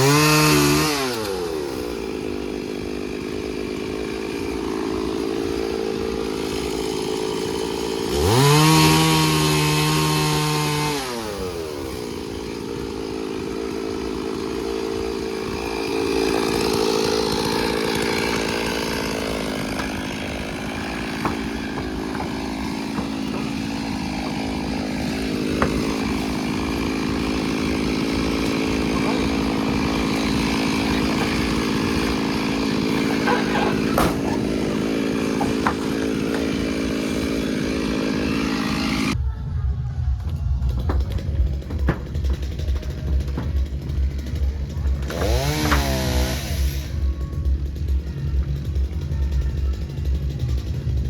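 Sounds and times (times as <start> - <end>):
chainsaw engine revving: 0.0 - 39.2, 40.7 - 51.0.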